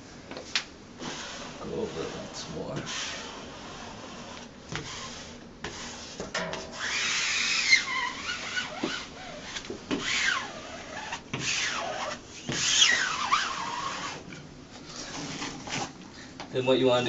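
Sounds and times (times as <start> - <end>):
squeegee rubbing over wallcovering: 1.0 - 16.0.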